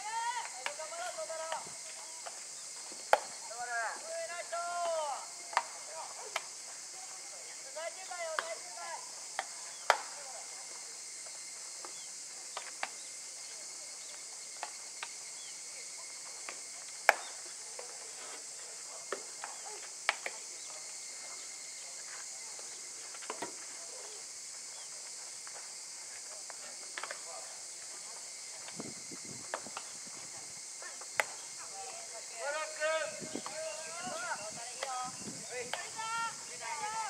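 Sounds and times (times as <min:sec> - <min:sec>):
faint distant voices: 0:00.0 - 0:37.0
insects droning: 0:00.0 - 0:37.0.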